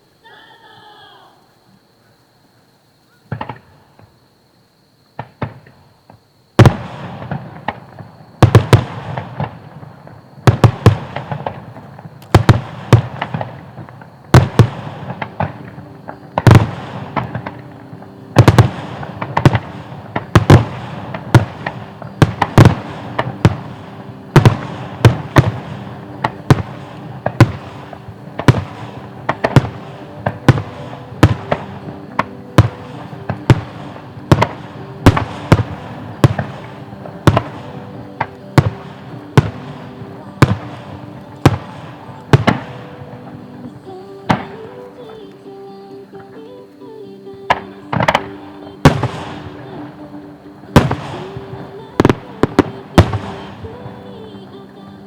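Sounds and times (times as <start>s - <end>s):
fireworks crackling: 0.0s - 2.0s, 2.8s - 55.0s
firework shells bursting: 6.6s - 45.6s, 47.5s - 55.0s.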